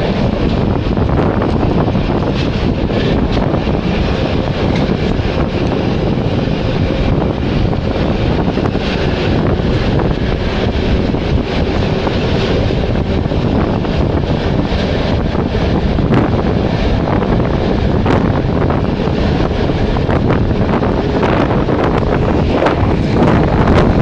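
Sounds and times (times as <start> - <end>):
train carriage rumbling on rails: 0.0 - 24.0
wind buffeting the microphone: 0.0 - 24.0.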